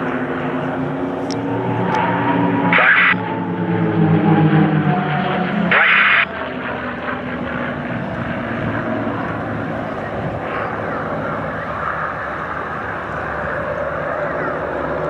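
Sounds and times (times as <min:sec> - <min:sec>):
propeller aircraft flying over: 0:00.0 - 0:15.0.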